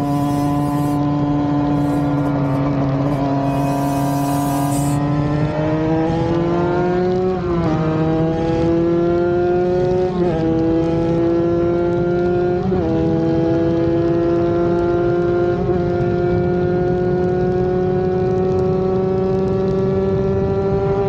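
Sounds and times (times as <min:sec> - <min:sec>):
two-stroke engine accelerating: 0:00.0 - 0:21.0.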